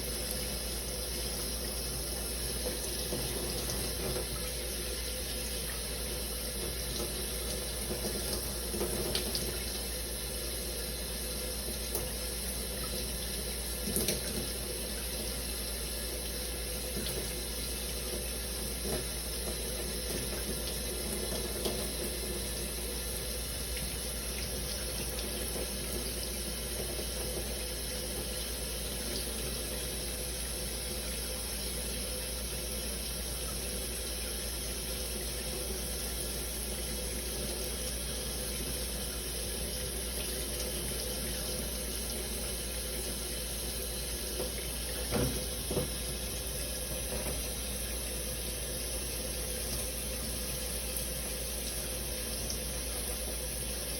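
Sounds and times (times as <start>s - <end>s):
shower water splashing: 0.0s - 53.9s.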